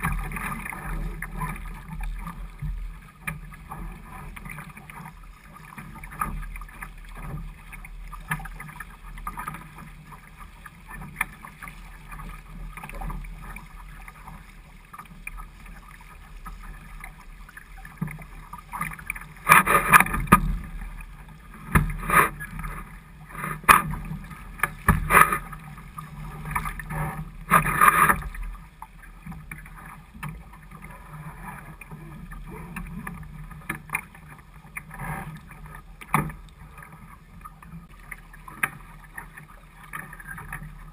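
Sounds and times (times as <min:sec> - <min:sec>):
water slapping against hull: 0:00.0 - 0:40.9.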